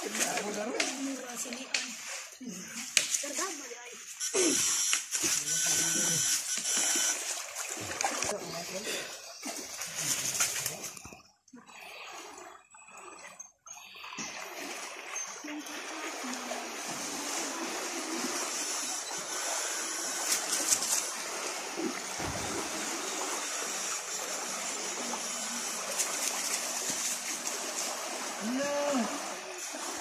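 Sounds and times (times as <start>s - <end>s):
people wading through stream: 0.0s - 30.0s.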